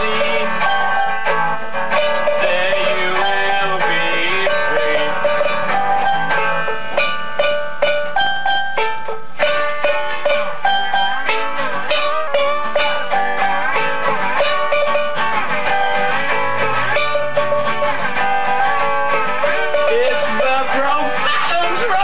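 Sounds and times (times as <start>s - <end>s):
solo guitar picked notes: 0.0s - 22.0s.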